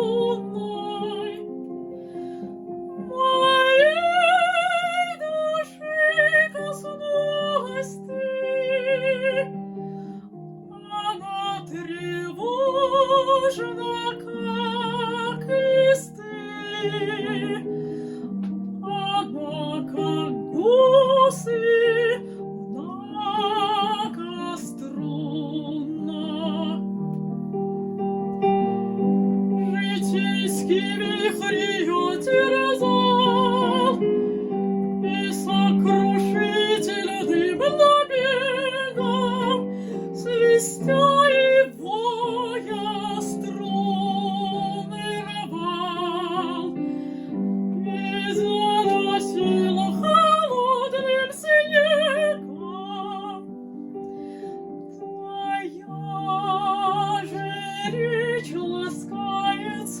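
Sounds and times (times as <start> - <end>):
woman singing with vibrato: 0.0 - 1.6, 3.0 - 9.6, 10.7 - 17.7, 18.8 - 26.9, 29.6 - 34.2, 35.0 - 46.9, 47.8 - 53.5, 55.2 - 60.0
piano accompaniment: 0.0 - 60.0.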